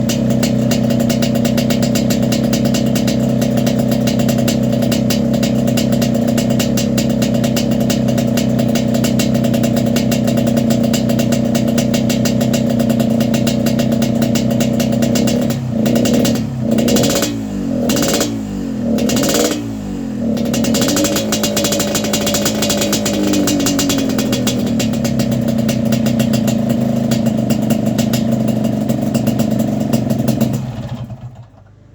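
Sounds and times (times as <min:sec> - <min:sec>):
two-stroke motorcycle engine: 0:00.0 - 0:31.9.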